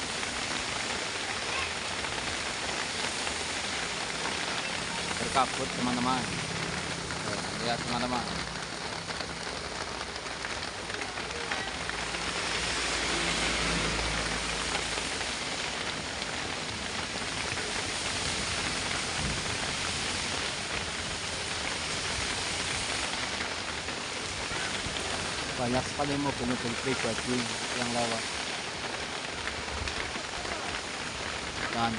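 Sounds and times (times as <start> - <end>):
heavy rain on truck cab: 0.0 - 31.9.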